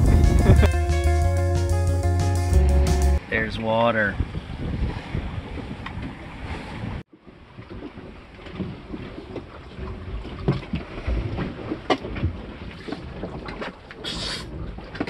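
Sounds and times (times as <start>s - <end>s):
low rumble of wind: 0.0s - 1.8s, 3.2s - 15.0s.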